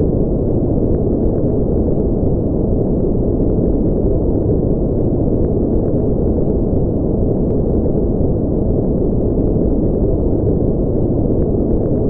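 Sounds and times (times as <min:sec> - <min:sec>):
deep steady noise rush: 0:00.0 - 0:12.0.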